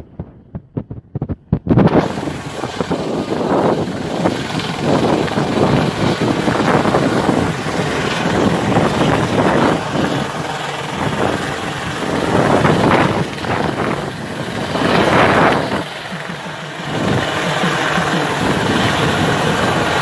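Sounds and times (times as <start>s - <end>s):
helicopter flying over: 0.0s - 20.0s.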